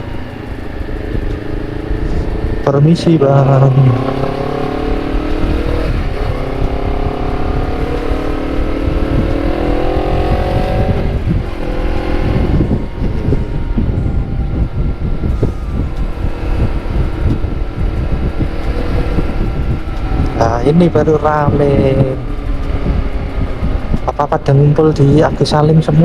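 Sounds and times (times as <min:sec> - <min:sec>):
motorcycle engine accelerating: 0:00.0 - 0:26.0
wind buffeting microphone: 0:00.0 - 0:26.0.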